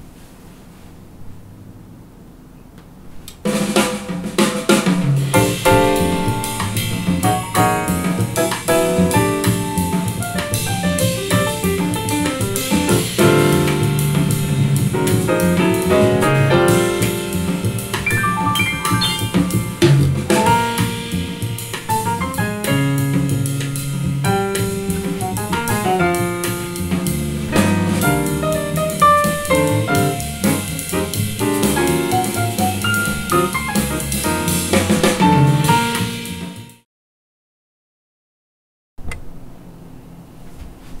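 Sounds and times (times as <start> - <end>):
jazz with piano and drums: 3.4 - 36.8.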